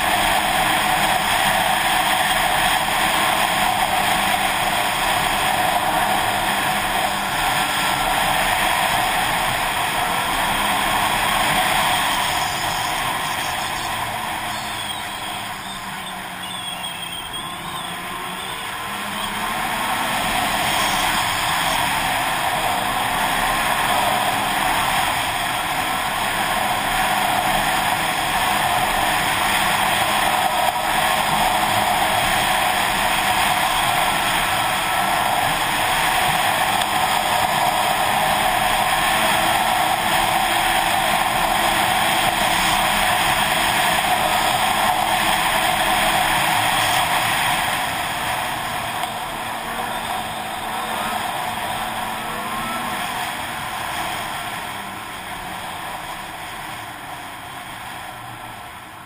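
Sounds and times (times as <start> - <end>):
wind rushing over microphone: 0.0 - 16.4, 17.6 - 59.0
snowmobile engine and track: 0.0 - 59.0.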